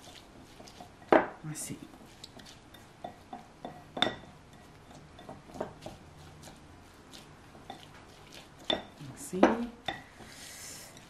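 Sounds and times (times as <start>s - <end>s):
spatula scraping glass bowl: 0.0s - 11.0s.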